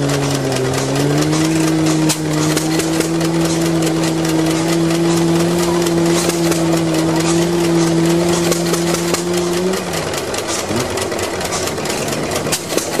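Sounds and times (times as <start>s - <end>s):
engine parts clicking: 0.0s - 13.0s
stationary gas engine running: 0.0s - 13.0s
steady low hum: 0.0s - 13.0s.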